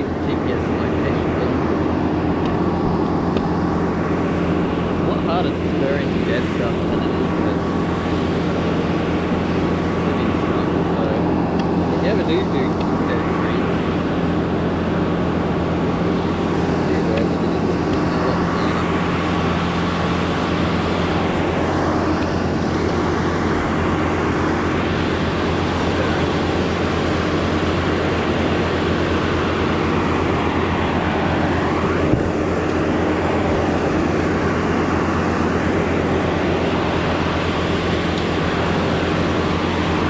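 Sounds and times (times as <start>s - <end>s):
steady engine drone: 0.0s - 40.0s.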